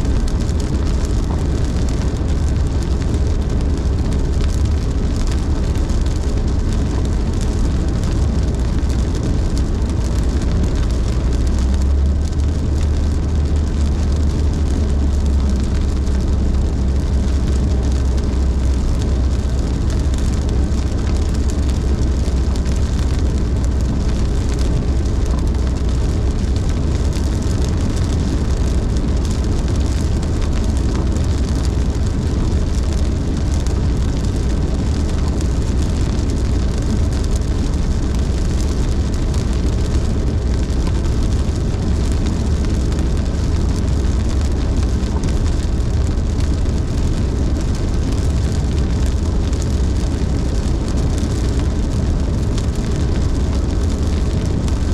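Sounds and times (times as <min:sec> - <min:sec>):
car road noise rumble: 0:00.0 - 0:54.9
rain and tyre spray hiss: 0:00.0 - 0:54.9.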